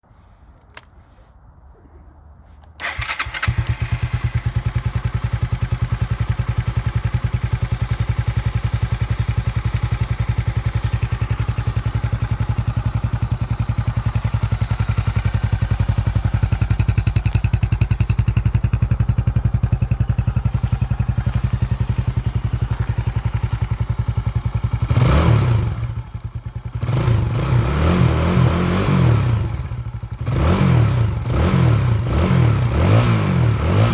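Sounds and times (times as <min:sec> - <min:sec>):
motorcycle engine idling: 0:02.8 - 0:27.6, 0:28.6 - 0:32.7
motorcycle engine revving: 0:02.8 - 0:33.9.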